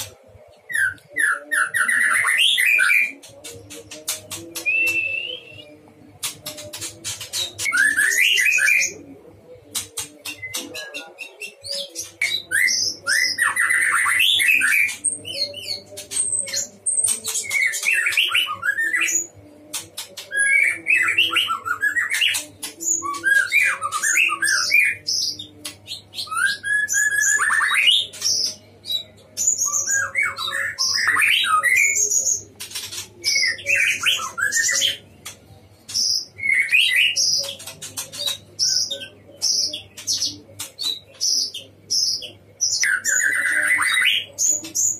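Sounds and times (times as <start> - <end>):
songbird singing whistles and rattles: 0.7 - 8.9, 9.7 - 44.9.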